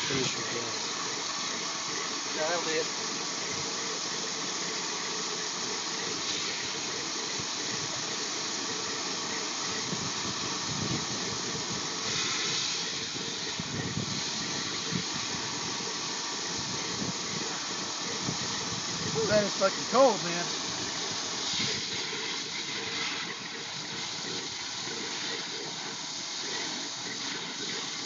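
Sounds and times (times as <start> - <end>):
water hissing and spraying: 0.0 - 28.0.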